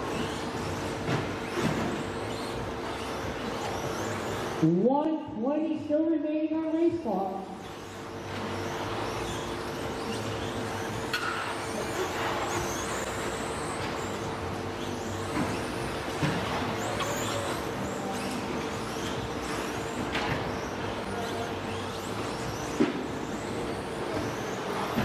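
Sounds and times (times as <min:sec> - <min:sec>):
electric motors whining: 0:00.0 - 0:04.8, 0:06.9 - 0:25.0.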